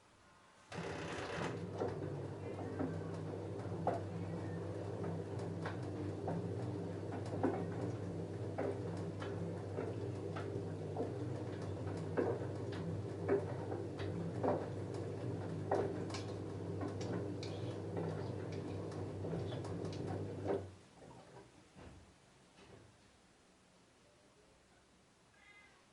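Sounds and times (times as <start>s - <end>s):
washing machine motor hum: 0.7s - 21.5s.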